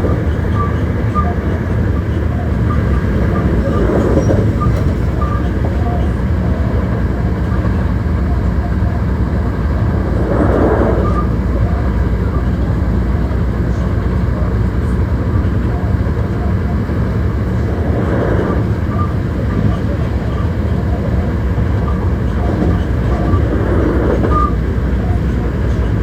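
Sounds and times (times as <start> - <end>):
electric train wheels on rail: 0.0 - 26.0.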